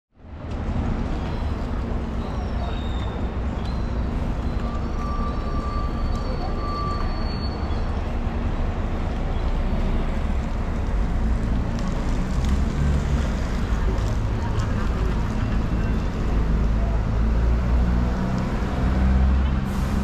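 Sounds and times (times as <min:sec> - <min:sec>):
low rumble of traffic: 0:00.1 - 0:20.0.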